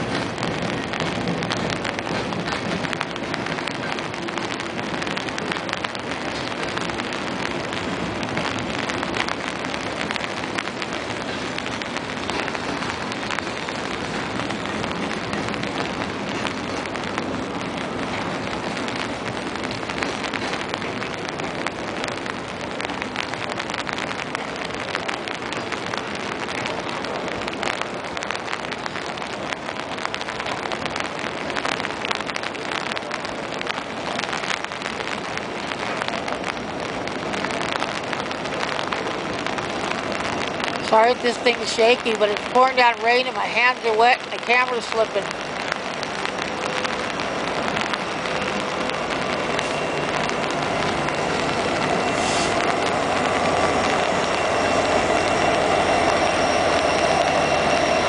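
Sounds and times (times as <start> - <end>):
freight cars rolling on rails: 0.0 - 58.0
rain pattering on an umbrella: 0.0 - 58.0.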